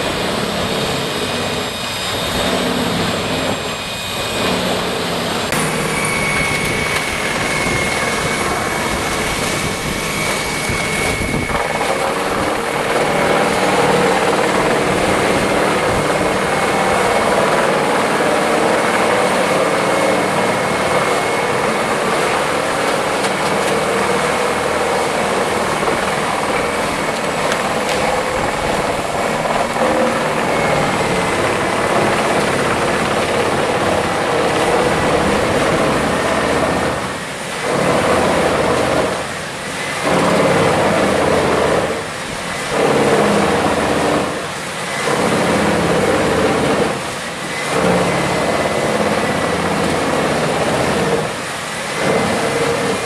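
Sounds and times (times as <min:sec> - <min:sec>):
heavy machine engine running: 0:00.0 - 0:53.0.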